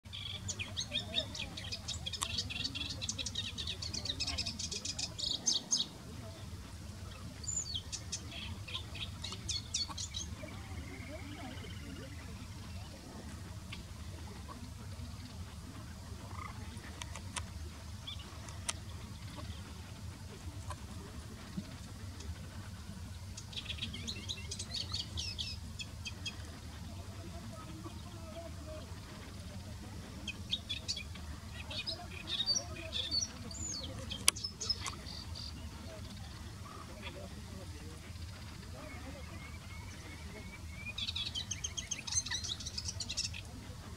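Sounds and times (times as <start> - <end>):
warbler singing: 0.1 - 22.0, 22.8 - 43.6
steady low rumble: 5.0 - 42.8.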